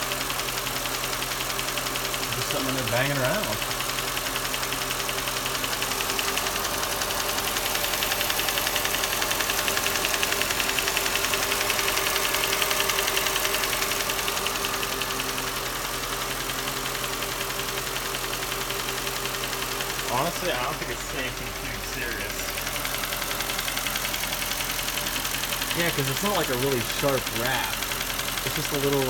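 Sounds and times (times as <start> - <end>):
car engine idling with tapping: 0.0 - 29.0.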